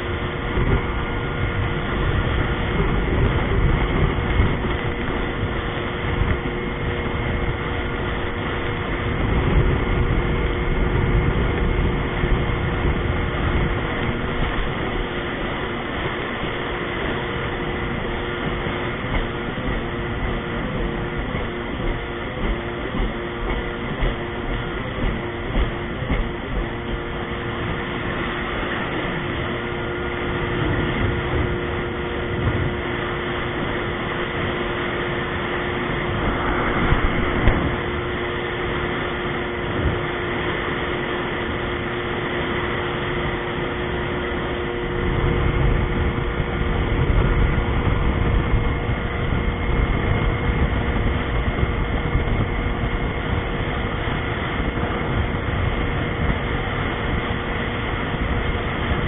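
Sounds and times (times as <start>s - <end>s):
personal watercraft engine whine: 0.0s - 59.0s
rushing water and wind: 0.0s - 59.0s.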